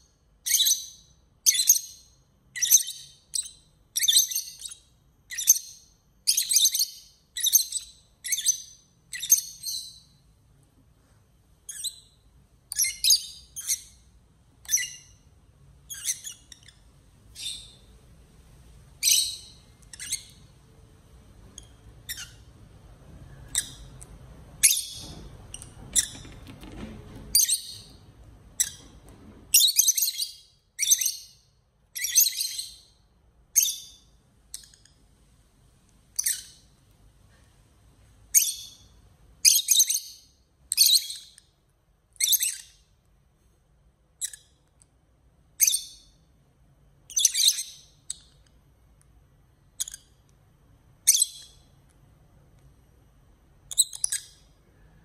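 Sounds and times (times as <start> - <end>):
lovebirds chirping and squawking: 0.4 - 10.3, 11.6 - 35.0, 36.0 - 36.8, 38.3 - 43.0, 44.1 - 44.7, 45.5 - 46.3, 47.0 - 48.5, 49.6 - 50.3, 51.0 - 51.8, 53.6 - 54.6.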